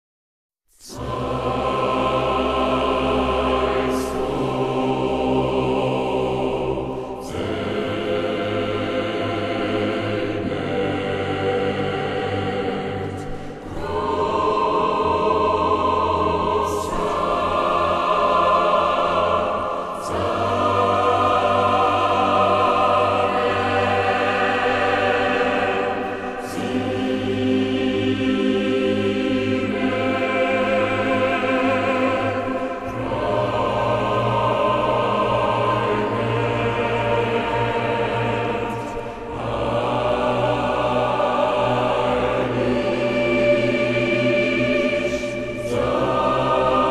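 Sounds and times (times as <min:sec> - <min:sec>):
choir singing held chords: 0:00.8 - 0:46.9.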